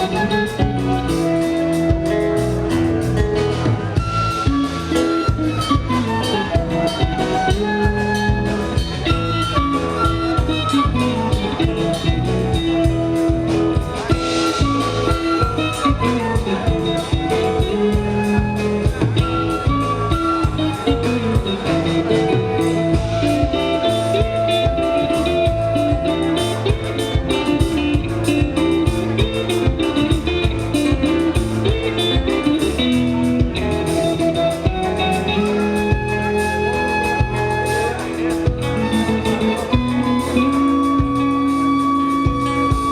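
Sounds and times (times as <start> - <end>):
bass guitar: 0.0 - 42.9
drum kit beat: 0.0 - 42.9
guitar melody: 0.0 - 42.9.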